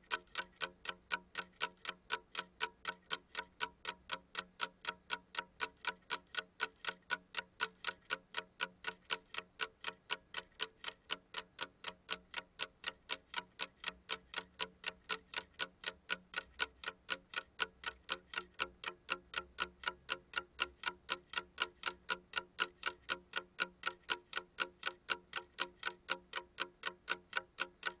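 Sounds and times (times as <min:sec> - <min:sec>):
alarm clock ticking: 0:00.0 - 0:28.0.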